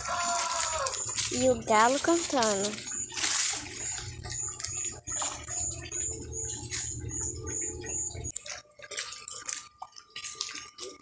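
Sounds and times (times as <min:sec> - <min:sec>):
light splashy noises: 0:00.0 - 0:11.0.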